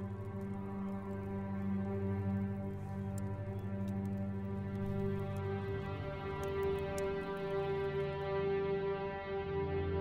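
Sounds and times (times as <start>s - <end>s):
low droning music: 0.0s - 10.0s.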